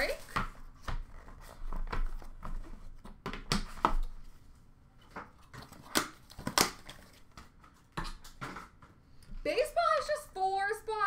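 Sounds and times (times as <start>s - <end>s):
cardboard box and cards rustling: 0.0s - 8.9s.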